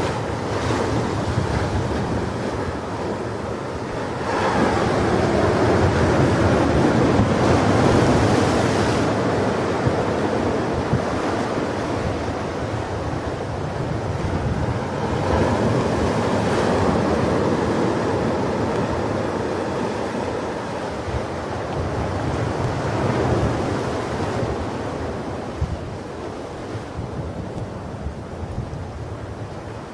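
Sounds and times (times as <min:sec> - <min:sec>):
ocean waves washing ashore: 0:00.0 - 0:29.9.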